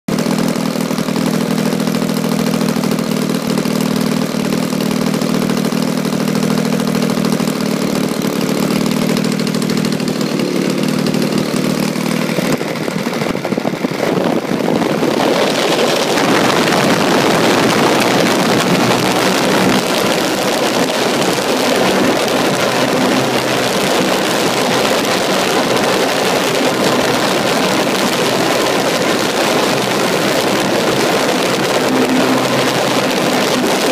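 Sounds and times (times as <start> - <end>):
model airplane engine: 0.1 - 33.9
propeller wash rushing: 0.1 - 33.9.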